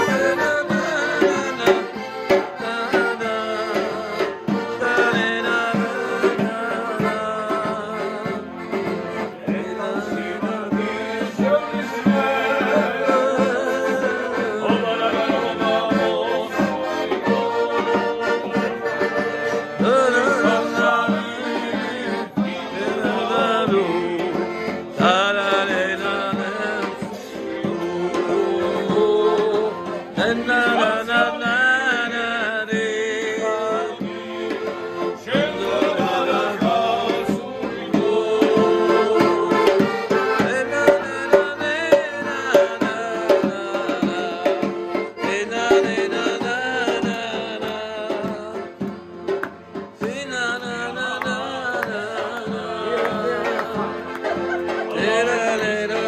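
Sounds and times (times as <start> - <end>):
lively folk music with percussion: 0.0 - 56.0.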